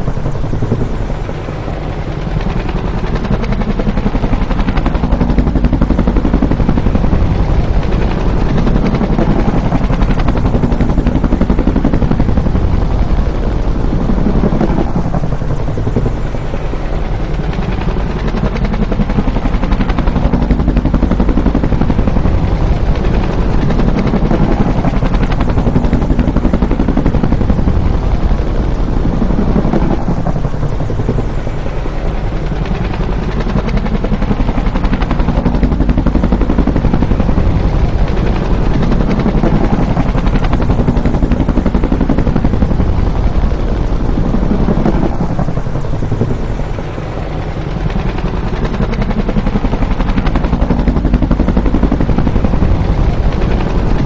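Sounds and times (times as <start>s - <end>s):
helicopter rotor chopping: 0.0s - 54.0s.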